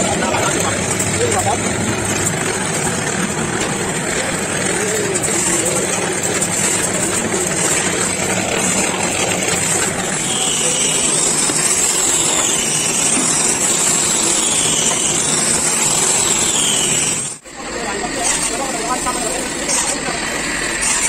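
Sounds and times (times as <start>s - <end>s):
power drill boring into wood: 0.0s - 17.4s, 18.0s - 21.0s
sander whining on wood: 0.0s - 21.0s.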